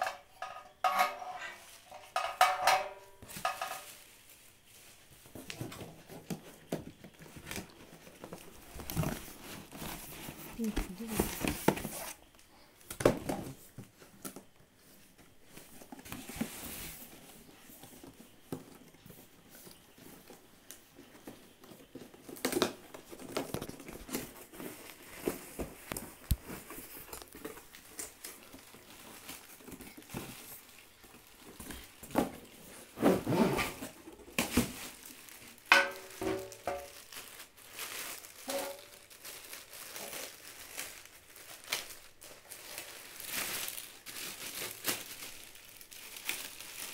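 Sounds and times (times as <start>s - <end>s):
plastic packaging crinkling: 2.9s - 33.2s, 33.8s - 46.9s.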